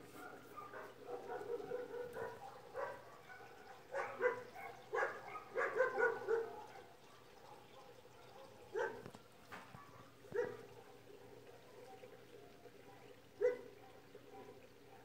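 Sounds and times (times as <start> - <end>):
dog barking: 0.2 - 12.2, 12.8 - 15.0.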